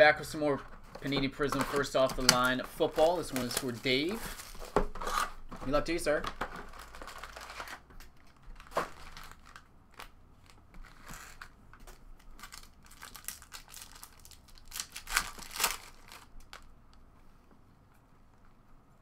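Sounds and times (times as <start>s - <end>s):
foil wrappers crinkling and tearing: 1.4s - 16.7s.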